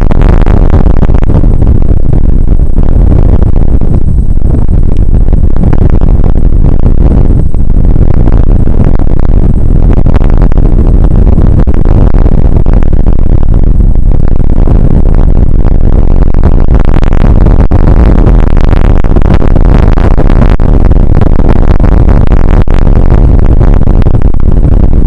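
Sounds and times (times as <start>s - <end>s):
small crackles: 0.0s - 25.0s.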